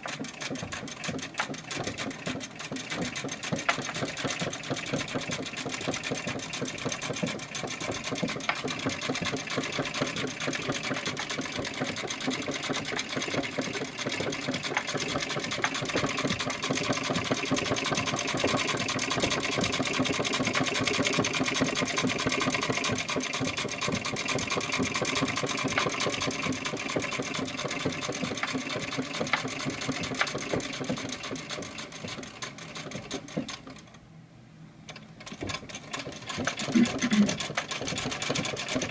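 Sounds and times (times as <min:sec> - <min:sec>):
sewing machine clattering: 0:00.0 - 0:34.0, 0:35.2 - 0:38.9.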